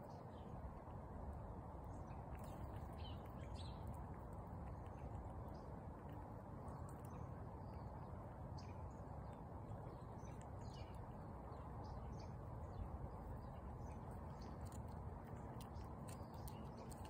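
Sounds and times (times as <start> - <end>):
low background rumble: 0.0 - 17.0
squirrel gnawing crunching clicks: 0.3 - 17.0.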